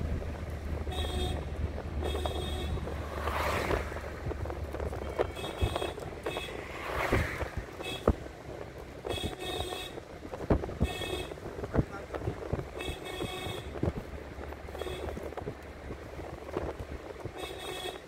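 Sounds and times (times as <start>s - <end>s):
car road and engine noise: 0.0s - 18.0s
whooshes of passing traffic: 0.0s - 18.0s.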